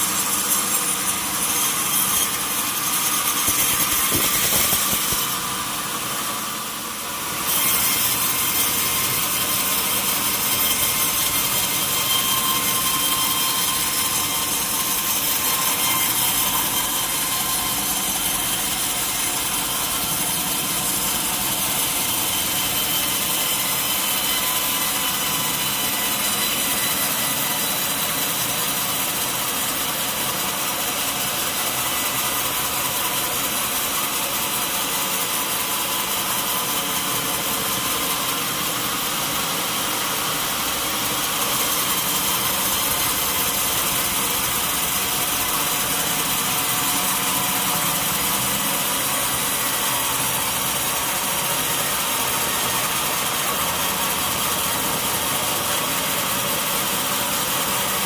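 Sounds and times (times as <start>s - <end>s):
saw blade cutting through log: 0.0s - 58.0s.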